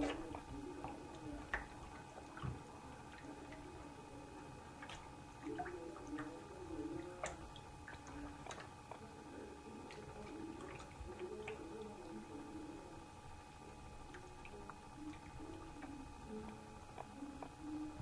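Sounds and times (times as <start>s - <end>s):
water dripping: 0.0s - 18.0s
water splashing in a sink: 0.0s - 18.0s.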